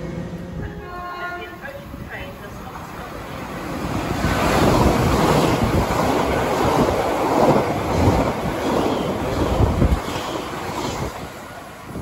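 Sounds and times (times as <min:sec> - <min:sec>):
electric train passing close: 0:00.0 - 0:12.0.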